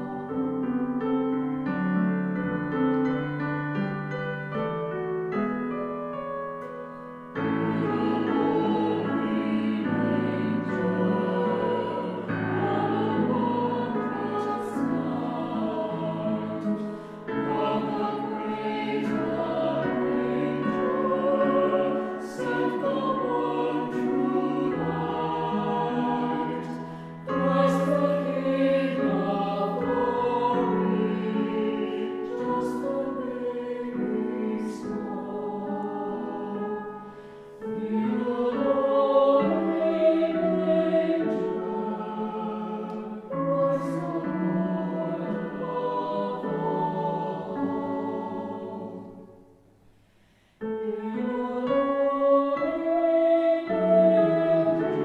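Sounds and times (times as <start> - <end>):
small choir singing: 0.0 - 4.8, 6.0 - 55.0.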